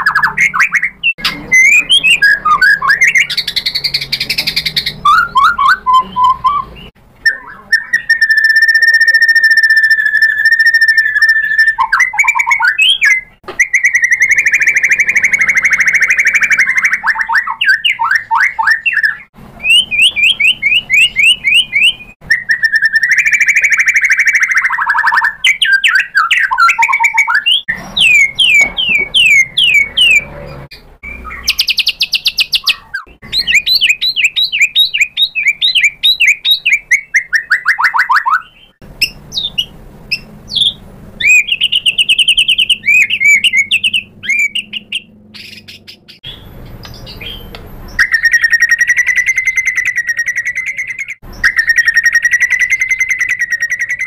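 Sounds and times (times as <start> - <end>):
songbird singing trills and whistles: 0.0 - 54.0.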